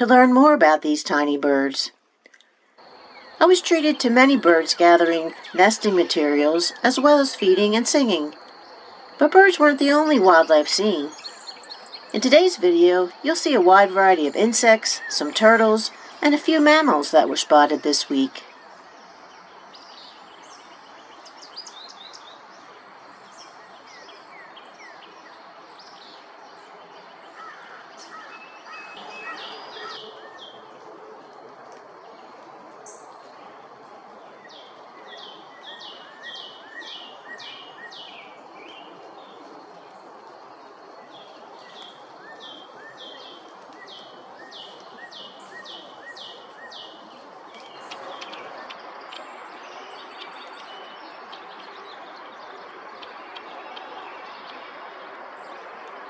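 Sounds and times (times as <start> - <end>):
songbird singing: 0.0 - 56.0
steady background hiss: 0.0 - 56.0.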